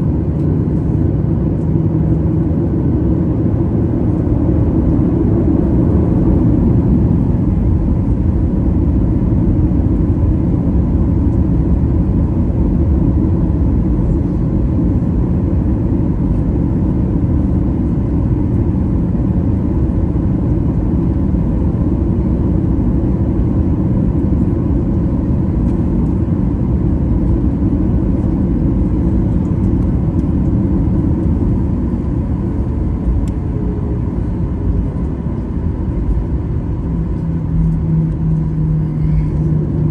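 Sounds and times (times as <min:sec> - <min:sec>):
faint steady whine: 0:00.0 - 0:39.9
jet cabin engine rumble: 0:00.0 - 0:39.9.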